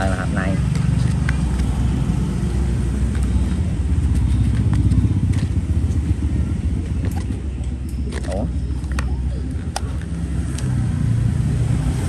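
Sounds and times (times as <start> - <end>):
motorbike traffic rumble: 0.0 - 12.0.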